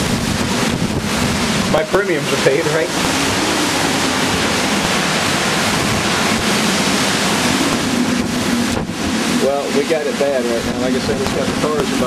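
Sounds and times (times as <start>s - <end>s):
wind driving heavy rain: 0.0s - 12.0s.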